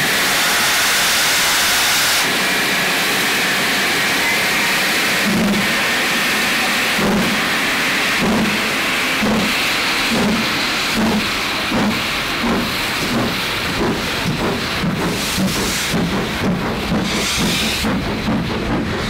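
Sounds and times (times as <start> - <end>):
steam hissing: 0.0 - 19.0
steam locomotive exhaust beats: 0.0 - 19.0.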